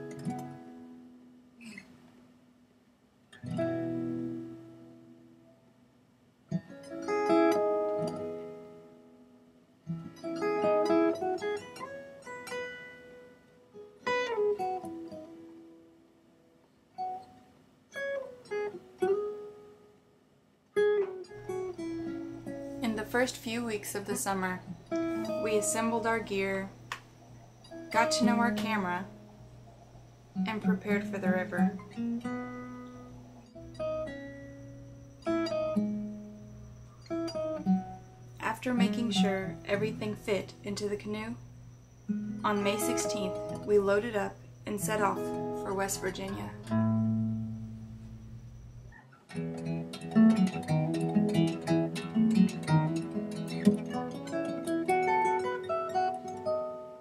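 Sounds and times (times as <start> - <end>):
plucked guitar: 0.0 - 2.2, 3.3 - 5.6, 6.5 - 20.0, 20.7 - 57.0.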